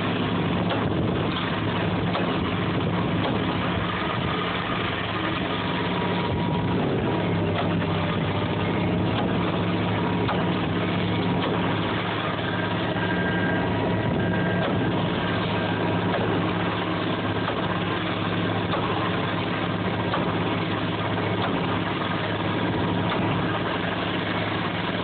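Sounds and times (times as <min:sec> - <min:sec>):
vibratory pile hammer drone: 0:00.0 - 0:25.0.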